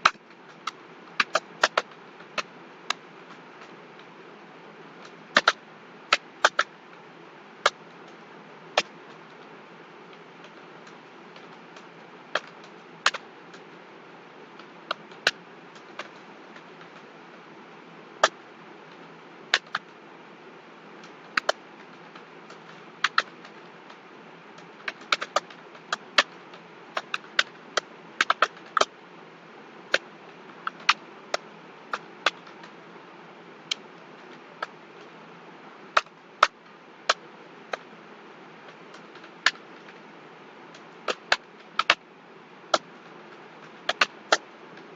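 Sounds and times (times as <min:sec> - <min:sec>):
steady background hiss: 0:00.0 - 0:44.9.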